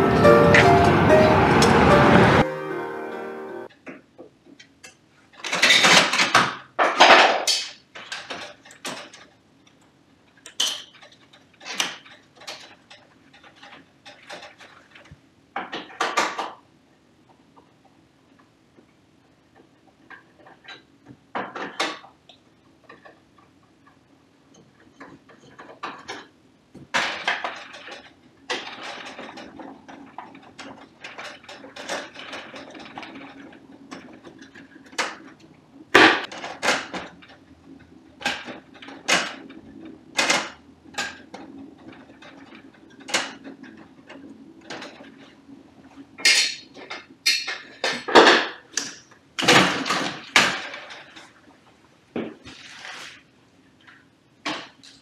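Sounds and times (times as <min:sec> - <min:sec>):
clicks knocks and scraping: 0:03.8 - 0:16.6, 0:19.5 - 0:51.6.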